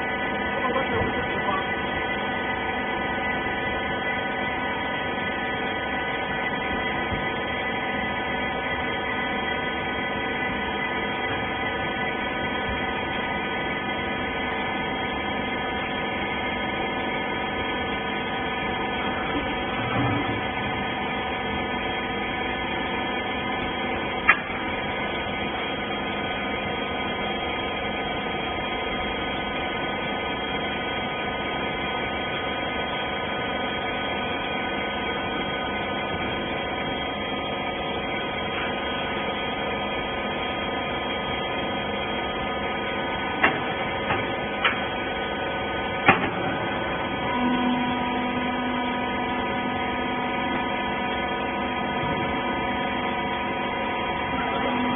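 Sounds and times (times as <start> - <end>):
hydraulic power unit humming: 0.0 - 54.9.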